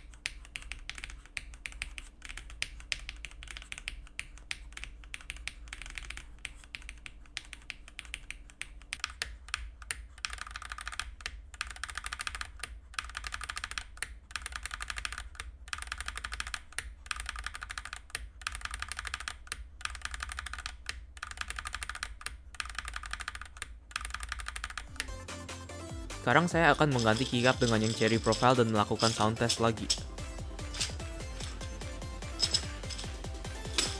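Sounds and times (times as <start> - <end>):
mechanical keyboard clacking: 0.0 - 25.2, 26.6 - 33.9.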